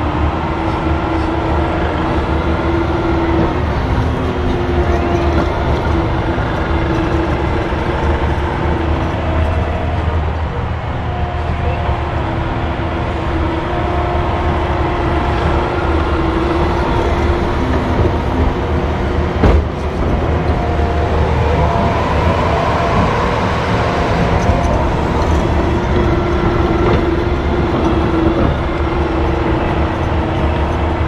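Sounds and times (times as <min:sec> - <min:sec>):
diesel engine under load: 0:00.0 - 0:31.0
hydraulic whine: 0:00.0 - 0:31.0.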